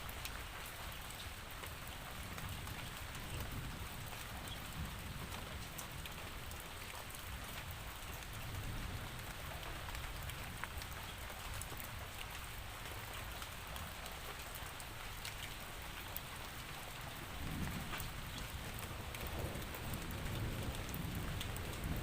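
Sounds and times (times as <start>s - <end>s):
steady rainfall hiss: 0.0s - 22.0s.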